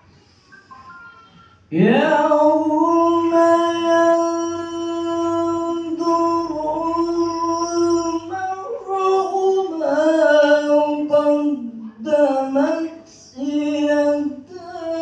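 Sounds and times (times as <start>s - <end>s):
man chanting into a microphone: 1.7s - 15.0s.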